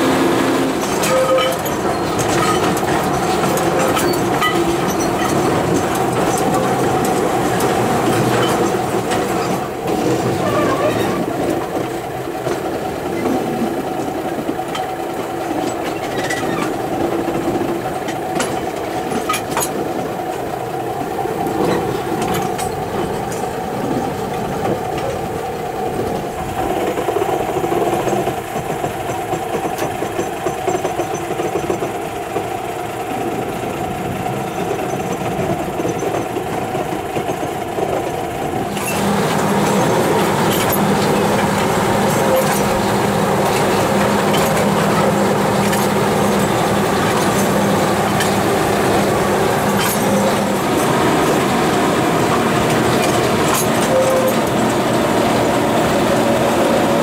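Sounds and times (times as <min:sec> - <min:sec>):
diesel locomotive engine running: 0:00.0 - 0:57.0
wheels clicking over rail joints: 0:00.0 - 0:57.0.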